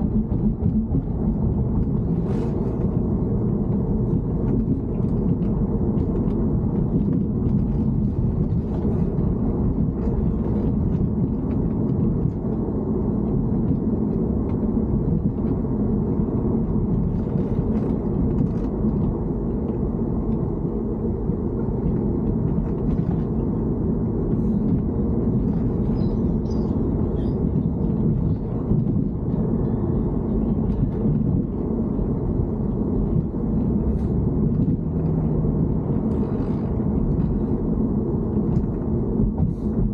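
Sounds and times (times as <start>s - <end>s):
car engine rumble in motion: 0.0s - 39.9s.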